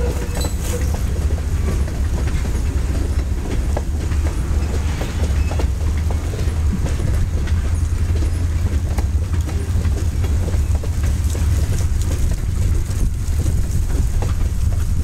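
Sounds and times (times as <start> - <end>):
freight train rumbling past: 0.0 - 15.0
wheels clicking on rails: 0.0 - 15.0.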